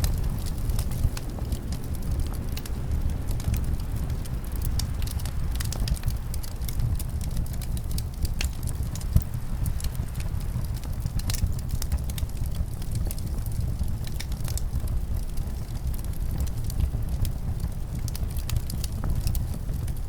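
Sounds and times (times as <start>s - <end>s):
fire crackling and popping: 0.0s - 20.0s
low rumble of wind and flames: 0.0s - 20.0s.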